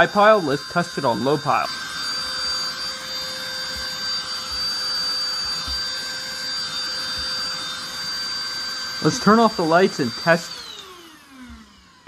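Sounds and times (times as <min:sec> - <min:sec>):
handheld vacuum cleaner whining: 0:00.0 - 0:12.0.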